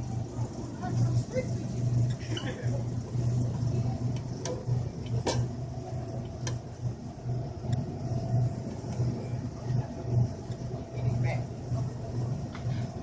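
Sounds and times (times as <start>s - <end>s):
faint steady hum: 0.0s - 13.0s
shopping cart wheels rumbling: 0.0s - 13.0s.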